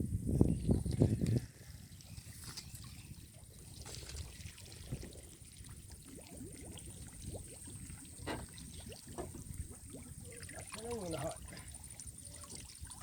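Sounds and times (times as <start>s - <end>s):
water lapping around boat: 0.5s - 13.0s
small splashes and drips: 0.6s - 13.0s.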